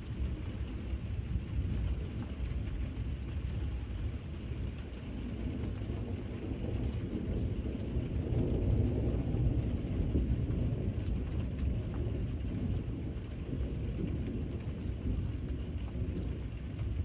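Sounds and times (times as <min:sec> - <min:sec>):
rolling rumble of thunder: 0:00.0 - 0:17.0
steady rain: 0:00.0 - 0:17.0.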